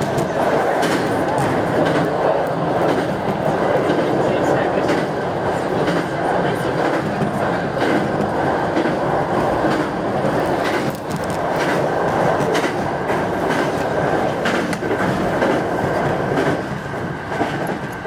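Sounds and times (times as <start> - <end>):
train rumbling over a bridge: 0.0 - 18.0.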